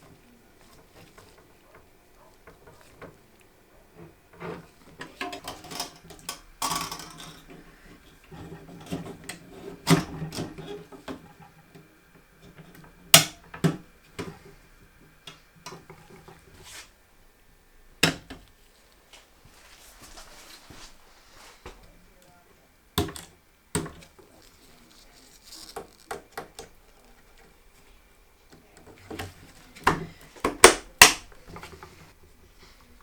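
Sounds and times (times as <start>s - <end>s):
soft rustling and scraping: 0.0s - 6.3s, 6.9s - 13.0s, 14.0s - 17.0s, 18.4s - 22.5s, 23.9s - 30.5s, 31.4s - 33.0s.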